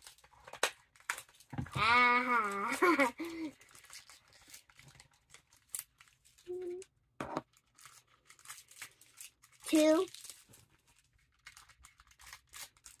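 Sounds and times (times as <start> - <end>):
plastic packaging crinkling and tearing: 0.0 - 6.8, 7.4 - 13.0.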